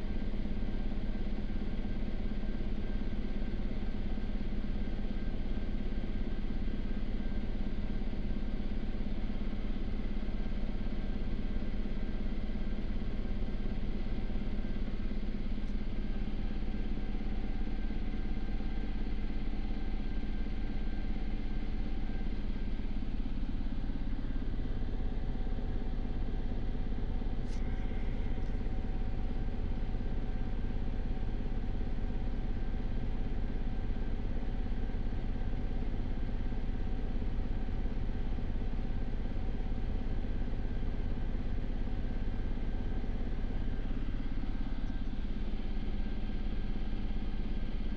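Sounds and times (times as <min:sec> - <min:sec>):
helicopter cabin drone: 0:00.0 - 0:47.9.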